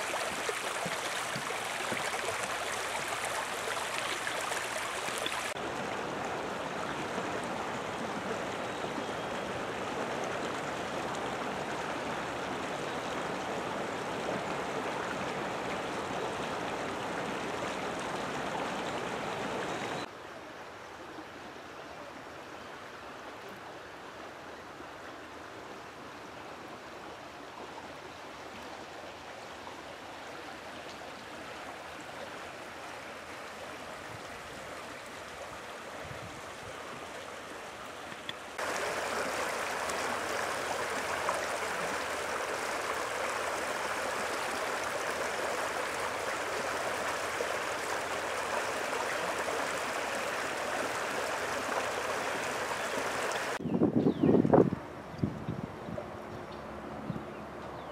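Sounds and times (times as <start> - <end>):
creek water rushing and gurgling: 0.0 - 53.6.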